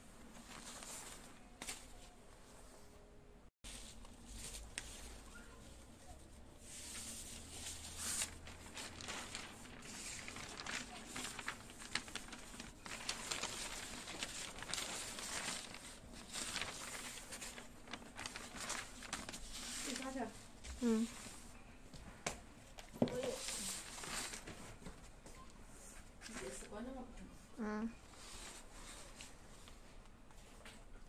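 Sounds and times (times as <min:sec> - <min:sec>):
paper rustling and crinkling: 0:00.2 - 0:02.8, 0:03.7 - 0:27.0, 0:28.1 - 0:31.0.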